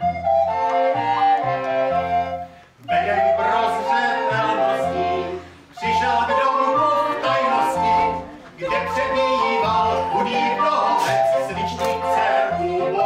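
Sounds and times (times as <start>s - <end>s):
voices singing folk song: 0.2s - 13.0s.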